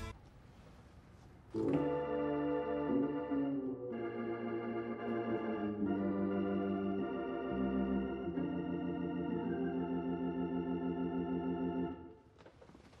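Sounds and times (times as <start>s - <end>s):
organ playing held chords: 1.6s - 12.2s.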